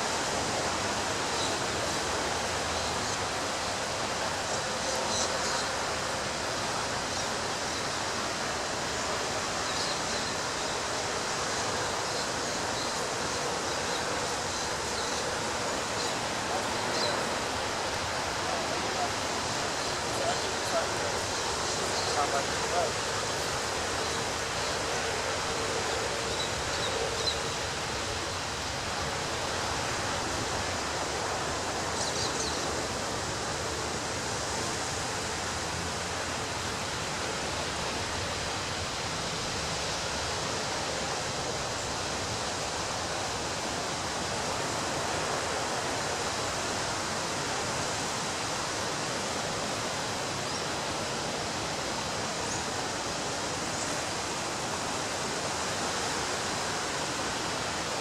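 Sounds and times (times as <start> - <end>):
ocean surf rushing: 0.0 - 58.0.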